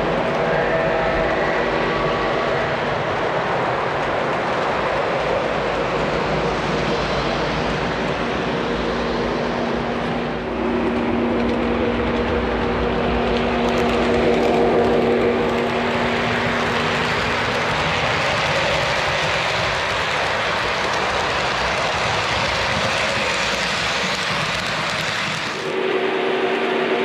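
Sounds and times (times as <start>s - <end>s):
model train wheels on rails: 0.0s - 27.0s.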